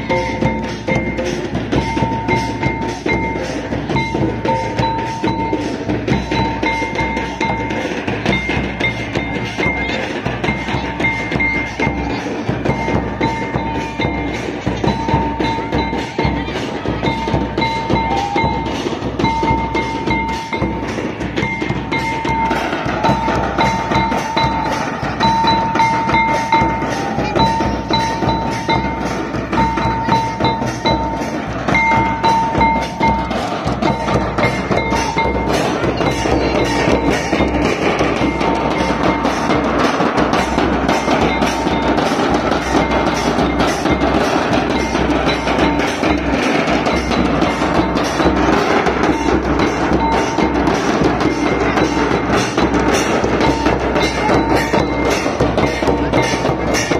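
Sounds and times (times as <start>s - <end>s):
barrel drum beating: 0.0s - 56.9s
bass drums beating: 0.0s - 56.9s.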